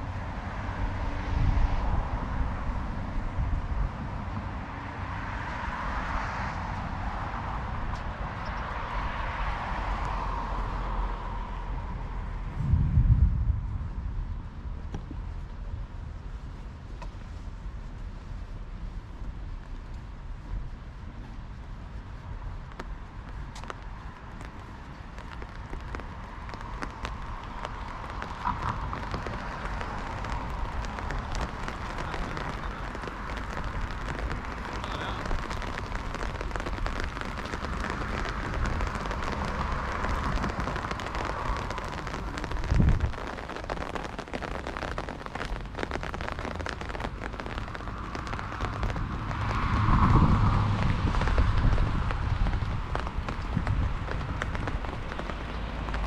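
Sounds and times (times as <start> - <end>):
heavy rain on street: 0.0 - 56.0.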